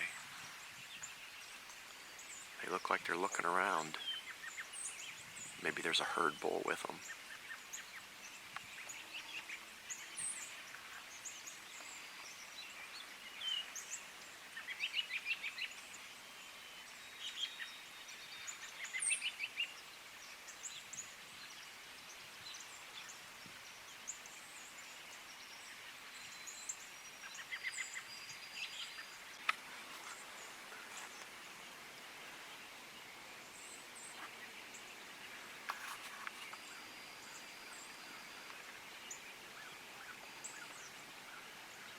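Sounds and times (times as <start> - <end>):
faint steady hiss: 0.0 - 41.9
small birds chirping: 0.0 - 41.9.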